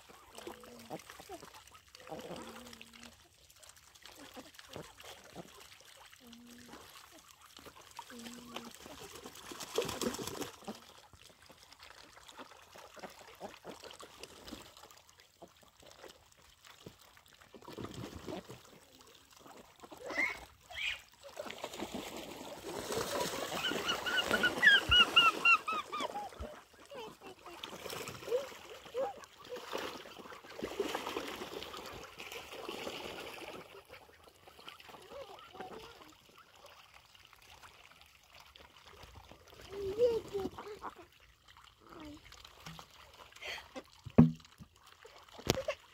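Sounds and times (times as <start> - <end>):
ducks splashing in water: 0.0 - 45.9.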